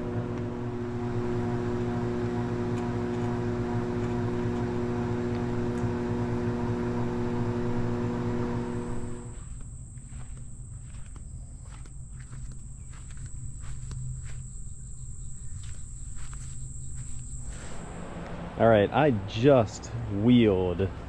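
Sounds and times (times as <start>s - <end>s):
electric motor hum: 0.0s - 18.6s.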